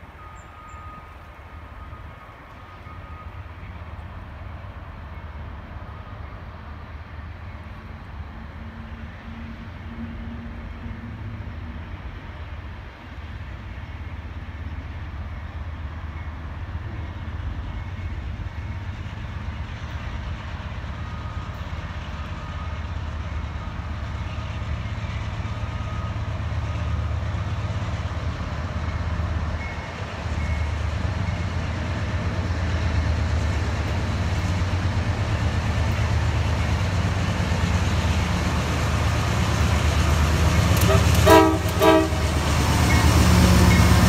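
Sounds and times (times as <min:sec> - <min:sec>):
diesel locomotive engine rumble: 0:00.0 - 0:44.0.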